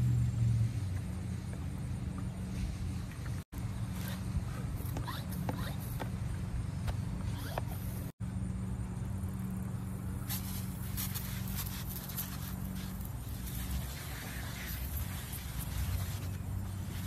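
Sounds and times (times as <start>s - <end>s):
low mechanical hum: 0.0s - 17.0s
pump sprayer hissing: 0.0s - 17.0s.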